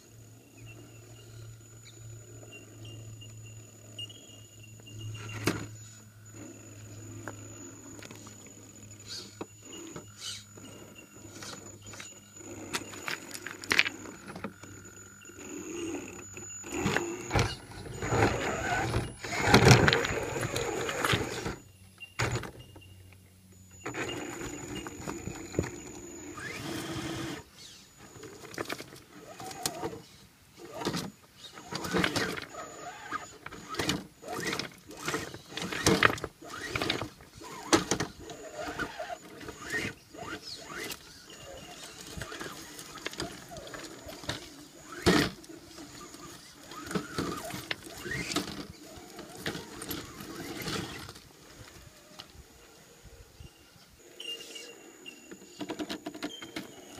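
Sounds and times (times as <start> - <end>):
electric motor whining: 4.7 - 22.6, 23.8 - 52.5.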